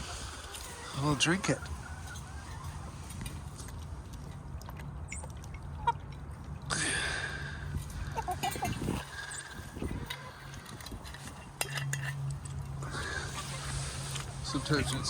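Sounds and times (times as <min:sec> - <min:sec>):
poultry flock: 0:00.0 - 0:06.4, 0:07.7 - 0:15.0.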